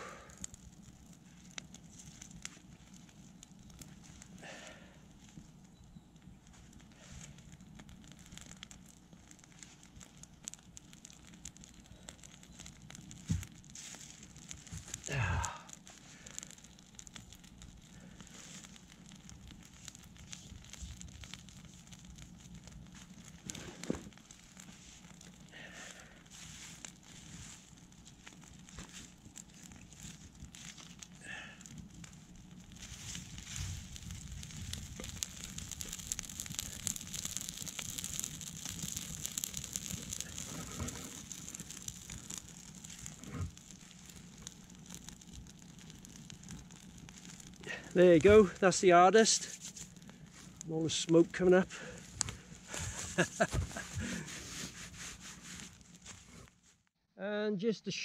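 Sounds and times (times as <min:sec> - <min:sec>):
sharp snap of fire: 0:00.0 - 0:05.6, 0:06.2 - 0:56.6
wood fire crackling: 0:00.0 - 0:57.0.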